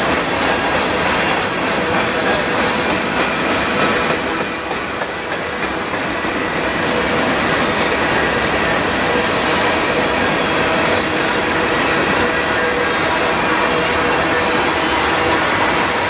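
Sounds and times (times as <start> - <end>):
freight train wheels on rails: 0.0 - 16.0.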